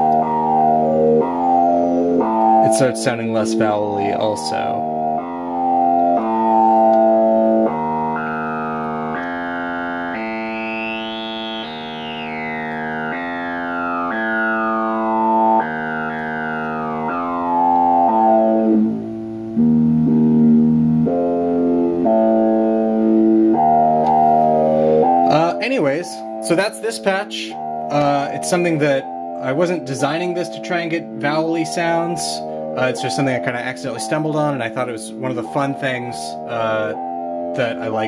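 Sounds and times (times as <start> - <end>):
synthesizer notes with formant sweep: 0.0 - 38.0.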